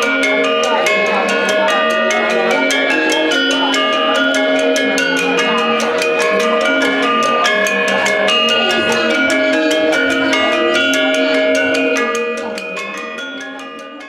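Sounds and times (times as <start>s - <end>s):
gamelan metallophones ringing: 0.0s - 14.0s.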